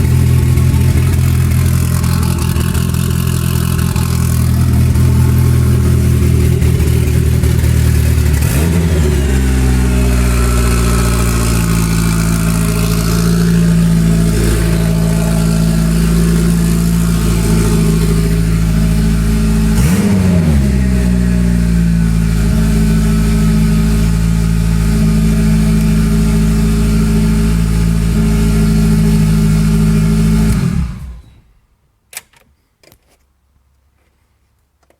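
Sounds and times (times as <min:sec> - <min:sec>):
car engine idling: 0:00.0 - 0:31.1.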